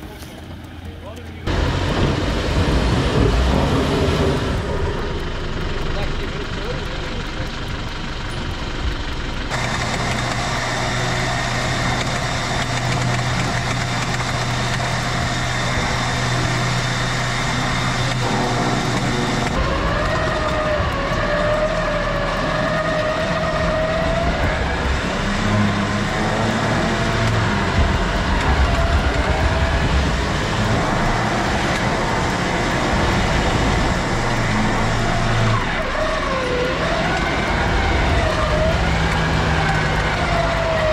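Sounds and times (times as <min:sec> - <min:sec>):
engine running under load: 0:00.0 - 0:40.9
electric winch motor whine: 0:01.5 - 0:40.9.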